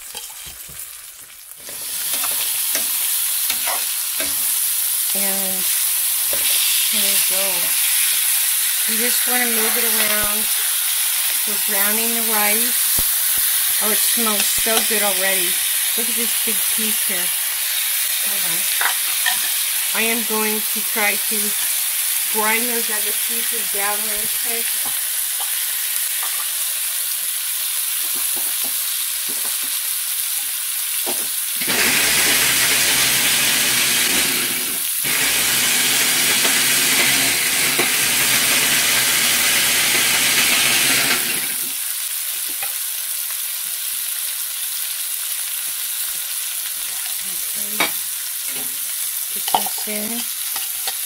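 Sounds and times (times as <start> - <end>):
noodles sizzling in a pan: 0.0 - 51.0.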